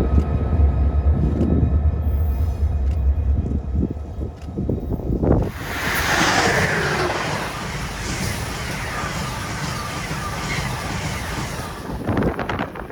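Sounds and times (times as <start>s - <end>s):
train rail and wheel noise: 0.0s - 12.9s.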